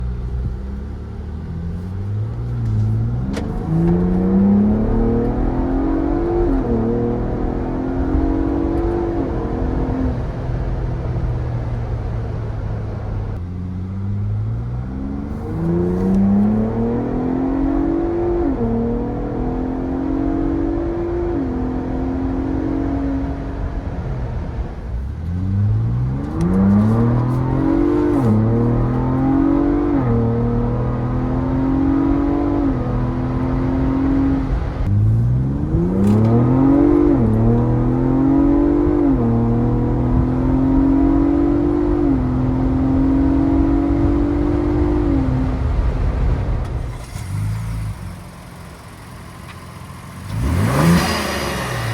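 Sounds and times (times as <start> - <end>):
engine accelerating hard: 0.0 - 51.9.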